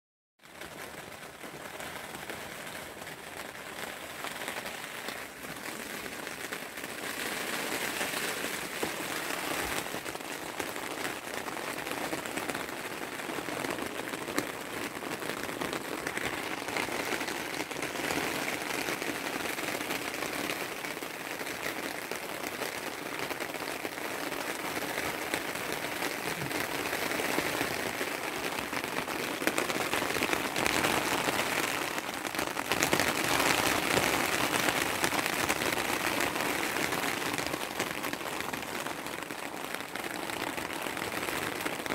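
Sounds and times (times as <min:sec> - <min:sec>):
heavy rain on a tent roof: 0:00.4 - 0:41.9.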